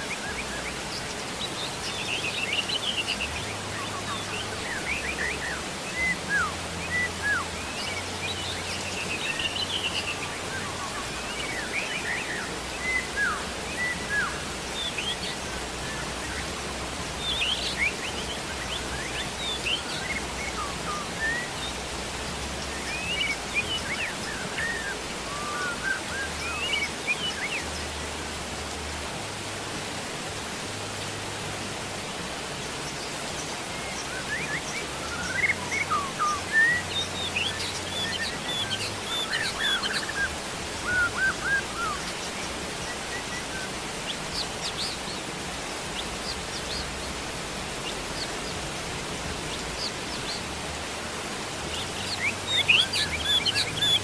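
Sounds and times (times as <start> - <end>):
rain hiss: 0.0 - 54.0
small birds chirping: 0.0 - 54.0.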